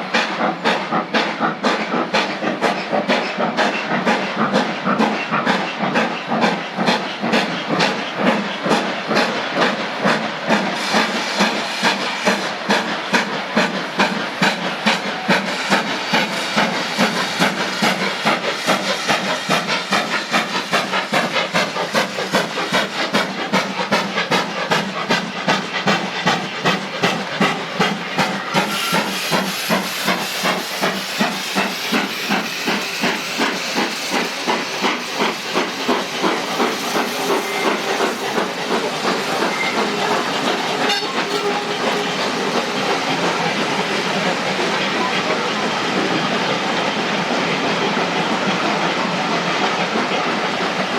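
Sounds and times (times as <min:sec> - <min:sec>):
steam hiss: 0:00.0 - 0:50.9
steam locomotive chuffing: 0:00.0 - 0:50.9.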